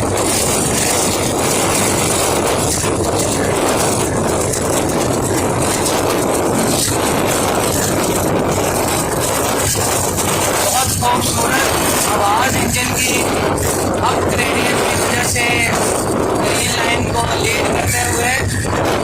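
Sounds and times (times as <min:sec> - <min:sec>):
locomotive engine droning: 0:00.0 - 0:19.0.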